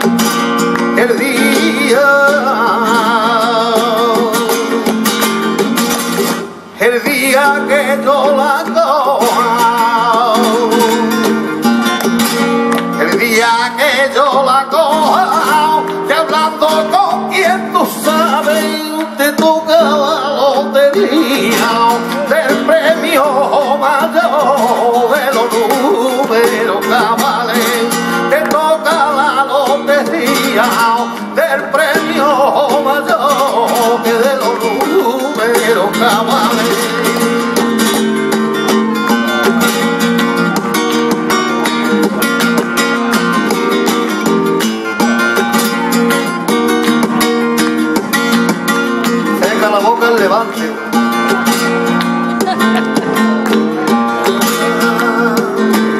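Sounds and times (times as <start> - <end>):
rhythmic hand-clapping: 0.0 - 6.5, 7.8 - 55.9
man singing melismatic lines: 0.0 - 44.3, 48.2 - 55.9
flamenco guitar: 0.0 - 55.9.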